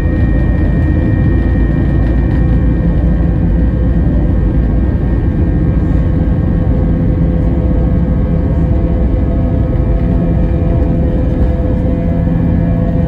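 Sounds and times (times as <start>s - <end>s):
jet engine whine: 0.0s - 13.0s
jet engines rumbling: 0.0s - 13.0s.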